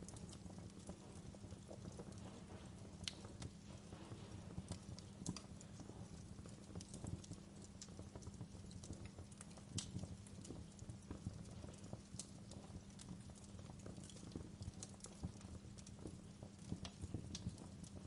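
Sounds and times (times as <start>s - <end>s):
burning logs popping and snapping: 0.0s - 18.0s
low rumble of flames: 0.0s - 18.0s.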